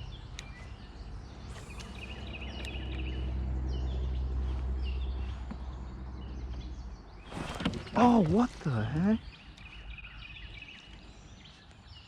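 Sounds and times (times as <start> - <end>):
outdoor lake ambience: 0.0 - 12.0
small birds chirping: 0.0 - 12.0.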